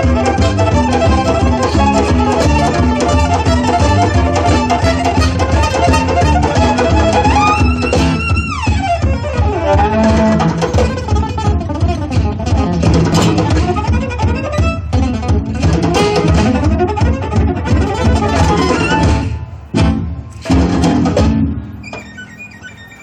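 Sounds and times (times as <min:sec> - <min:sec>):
gypsy jazz band playing: 0:00.0 - 0:23.0.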